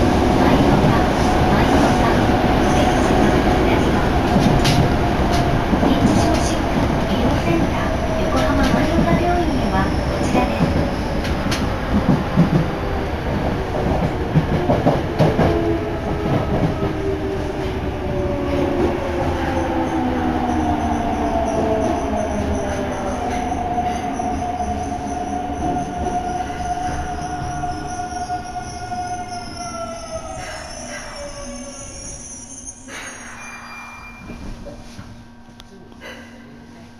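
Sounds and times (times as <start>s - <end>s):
train running rumble: 0.0s - 31.8s.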